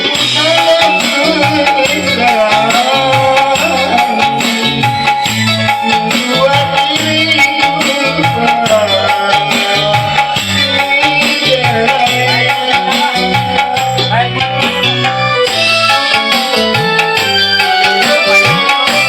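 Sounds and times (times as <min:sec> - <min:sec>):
song with bass and melody: 0:00.0 - 0:19.0.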